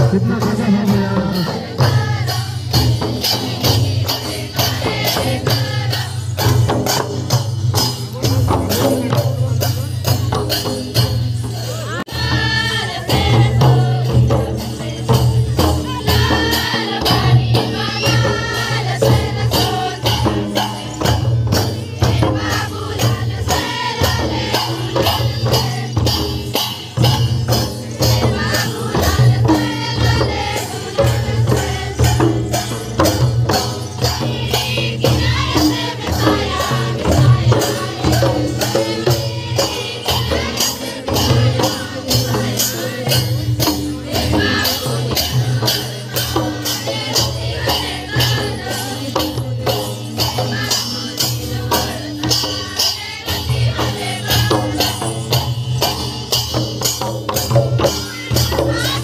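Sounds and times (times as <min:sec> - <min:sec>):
barrel drums beaten fast: 0:00.0 - 0:59.0
group of voices singing: 0:00.0 - 0:59.0.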